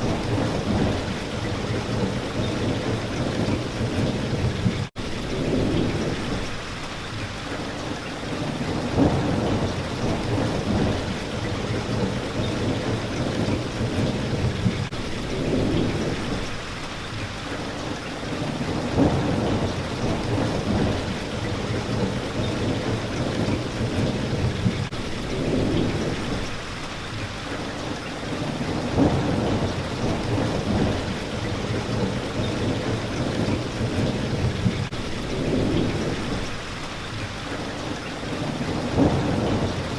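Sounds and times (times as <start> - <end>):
thunder rumbling: 0.0 - 6.9, 8.2 - 16.8, 18.2 - 27.1, 28.2 - 37.2, 38.2 - 39.9
rain hitting a window: 0.0 - 39.9.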